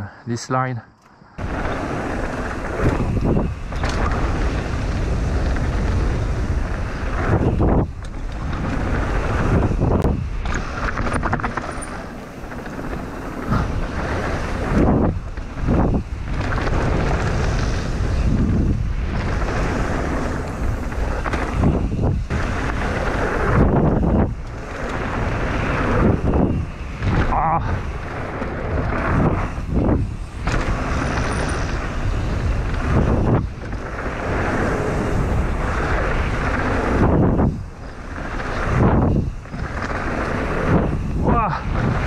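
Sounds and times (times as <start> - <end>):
bike rolling over dirt: 1.4 - 42.0
wind on microphone: 1.4 - 42.0.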